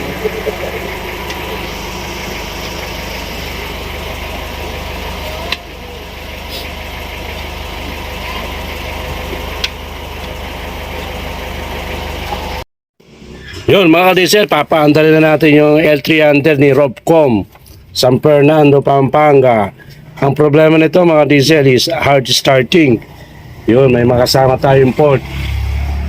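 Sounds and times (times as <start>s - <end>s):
engine idling: 0.0s - 18.1s, 18.8s - 25.2s.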